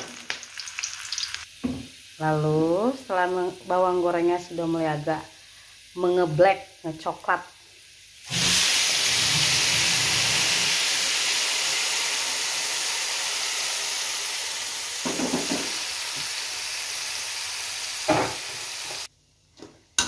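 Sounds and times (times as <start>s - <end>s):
paste sizzling in hot oil: 0.0s - 19.1s.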